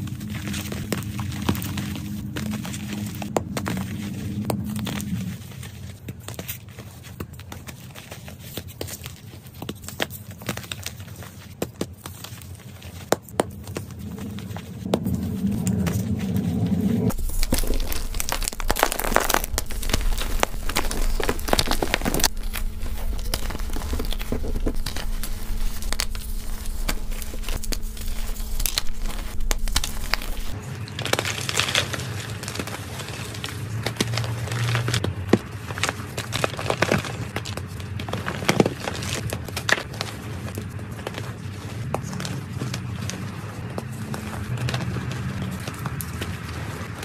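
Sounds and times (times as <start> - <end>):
hands crushing chalk: 0.0 - 47.0.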